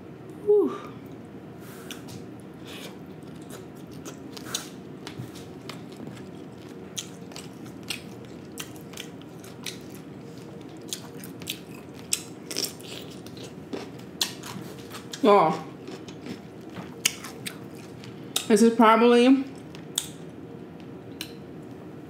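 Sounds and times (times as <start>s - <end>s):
person chewing with wet clicks: 3.0s - 18.5s, 19.5s - 21.8s.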